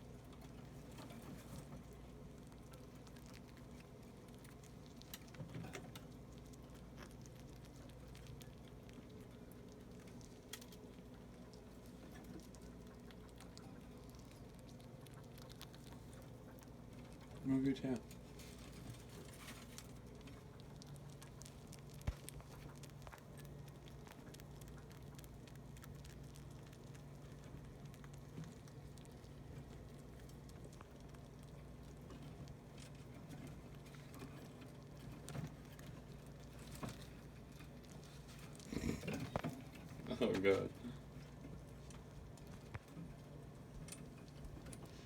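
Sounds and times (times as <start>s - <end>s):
rodents pattering and clicking: 0.0s - 45.0s
steady low hum: 0.0s - 45.0s.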